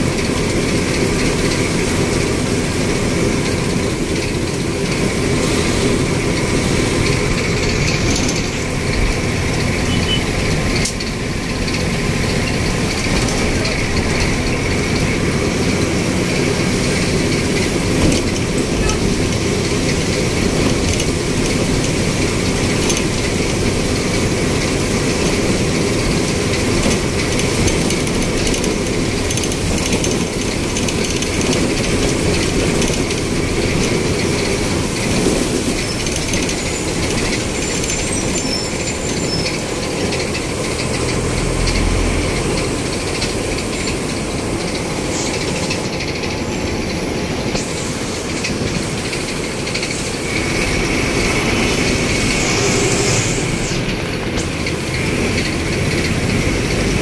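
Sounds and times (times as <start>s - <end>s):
vehicle interior road noise: 0.0s - 57.0s.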